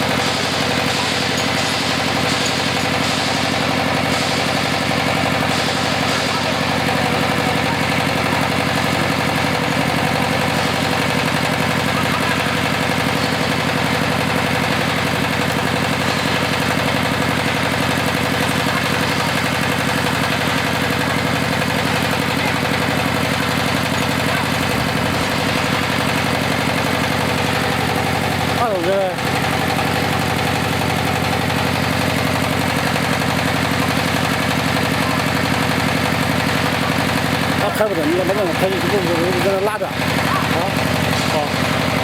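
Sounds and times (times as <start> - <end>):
drilling rig engine running: 0.0 - 42.0.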